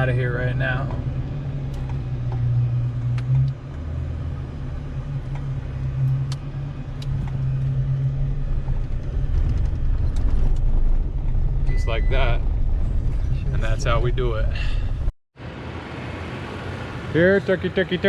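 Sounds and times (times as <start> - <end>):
vehicle engine climbing: 0.0 - 18.0.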